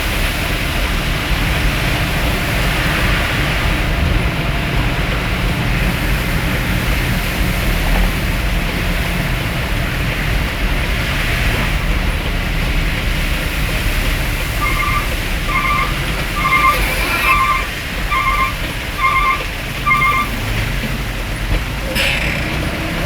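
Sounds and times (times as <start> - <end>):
heavy rain: 0.0 - 23.0
moving vehicle rumble: 0.0 - 23.0.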